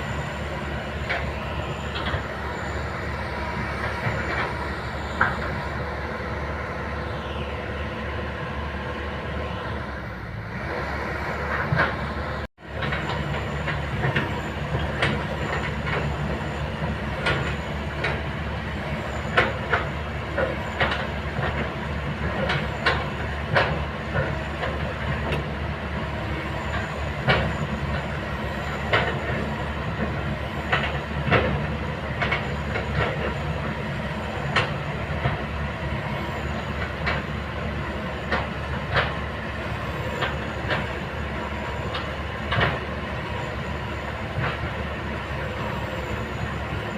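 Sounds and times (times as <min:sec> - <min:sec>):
diesel engine drone: 0:00.0 - 0:46.9.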